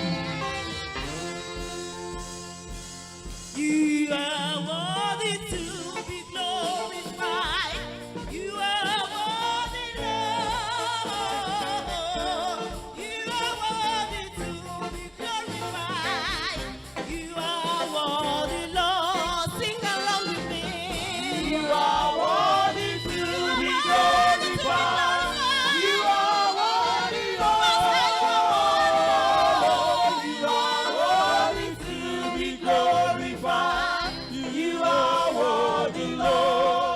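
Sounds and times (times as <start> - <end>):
gospel singing with vibrato: 0.0 - 36.9
instrumental accompaniment: 0.0 - 36.9.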